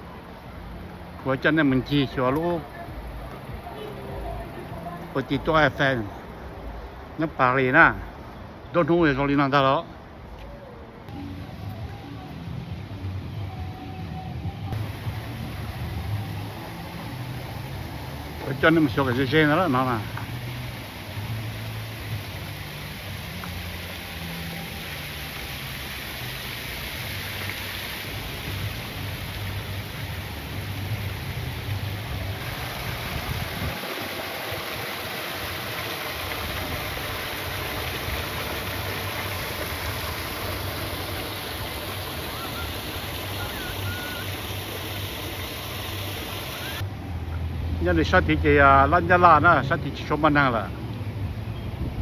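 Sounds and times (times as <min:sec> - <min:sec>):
fountain water splashing: 0:00.0 - 0:14.0, 0:14.7 - 0:52.0.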